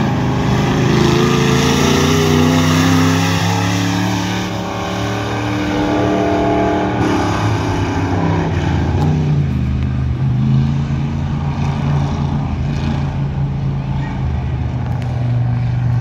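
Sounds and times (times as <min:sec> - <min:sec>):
race car engine at speed: 0:00.0 - 0:16.0.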